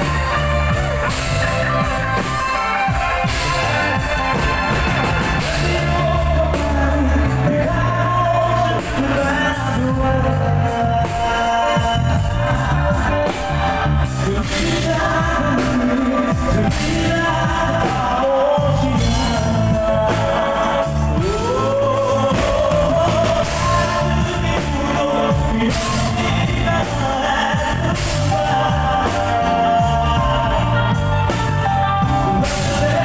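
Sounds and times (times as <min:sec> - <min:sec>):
drums: 0:00.0 - 0:33.0
guitar: 0:00.0 - 0:33.0
man singing into microphone: 0:05.2 - 0:33.0.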